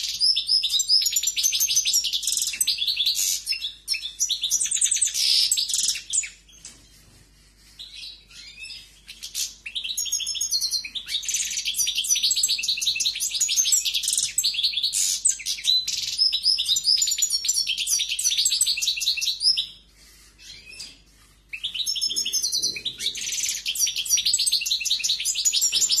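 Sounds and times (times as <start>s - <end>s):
bird twittering and trilling: 0.0s - 26.0s.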